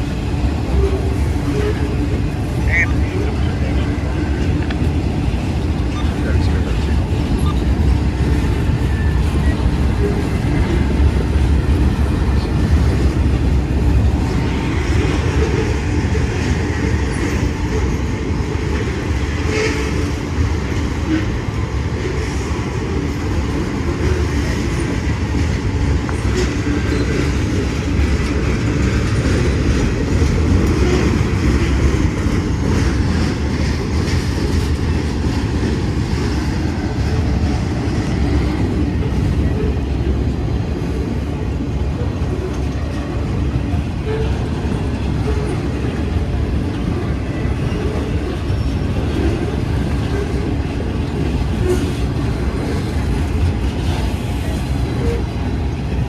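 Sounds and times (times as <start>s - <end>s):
freight train cars rumbling: 0.0s - 56.0s.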